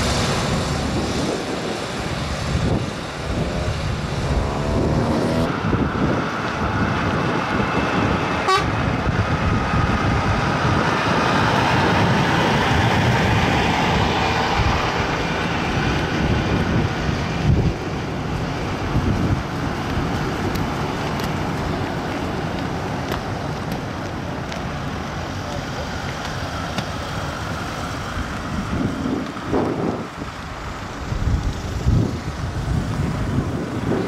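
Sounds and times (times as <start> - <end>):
diesel truck engine passing: 0.0 - 34.0
tyres rolling on road: 0.0 - 34.0.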